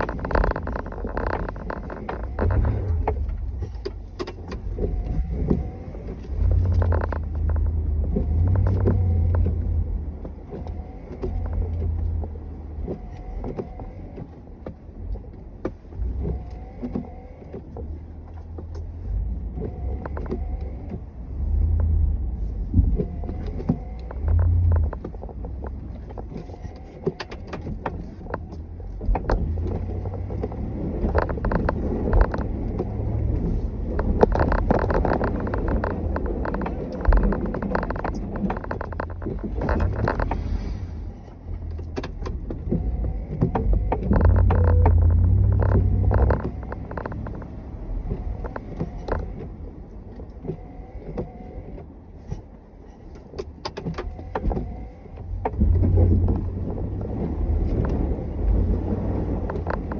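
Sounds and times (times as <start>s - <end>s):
snowplow engine rumbling: 0.0s - 59.9s.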